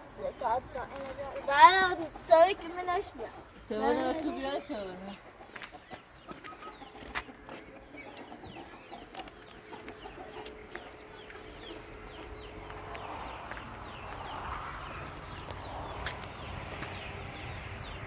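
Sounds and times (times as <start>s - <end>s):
fowl chirping: 0.2s - 18.0s.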